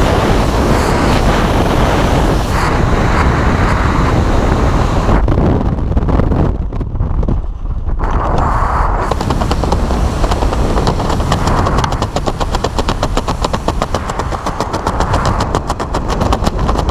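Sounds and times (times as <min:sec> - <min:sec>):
parachute fluttering: 0:00.0 - 0:05.3, 0:07.8 - 0:16.9
wind rushing over microphone: 0:00.0 - 0:16.9.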